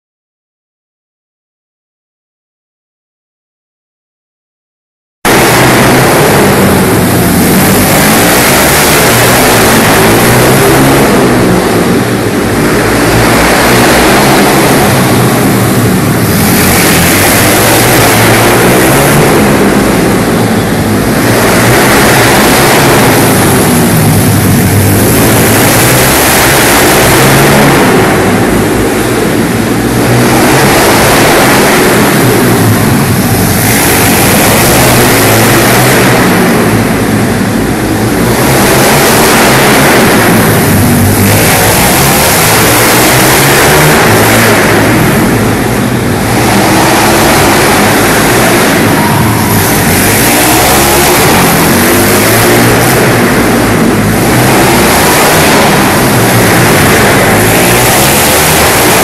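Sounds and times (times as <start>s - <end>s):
pit bike engines revving: 5.3s - 59.0s.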